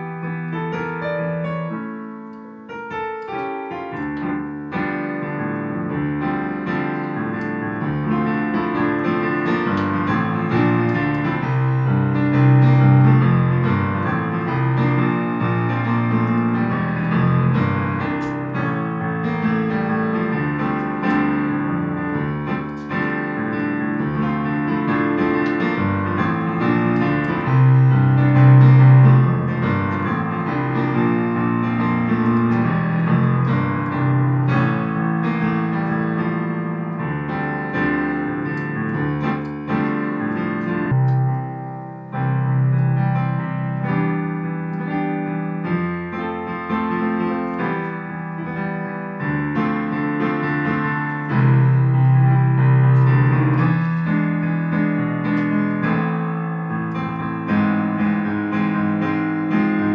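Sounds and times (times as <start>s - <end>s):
digital piano playing chords: 0.0s - 59.9s.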